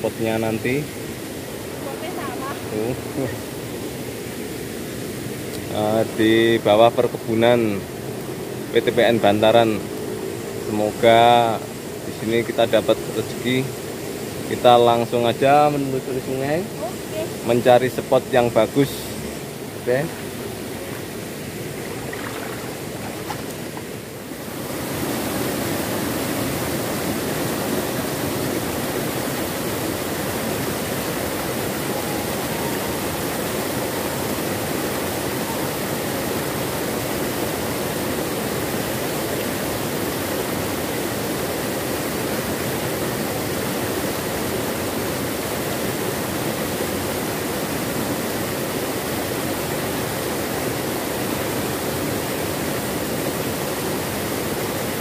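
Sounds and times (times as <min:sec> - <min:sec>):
open-air ambience: 0:00.0 - 0:55.0
waterfall rushing into pool: 0:00.0 - 0:55.0.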